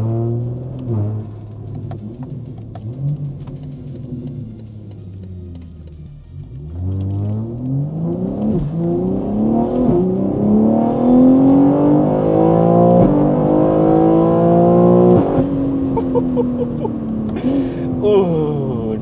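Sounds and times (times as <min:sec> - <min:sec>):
car exhaust under hard acceleration: 0:00.0 - 0:18.0.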